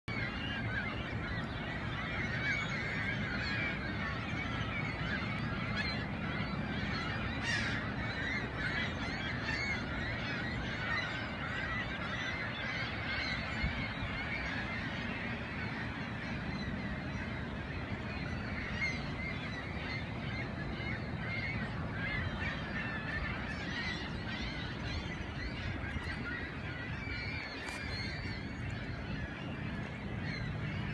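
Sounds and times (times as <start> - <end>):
waterbirds honking: 0.1 - 30.9.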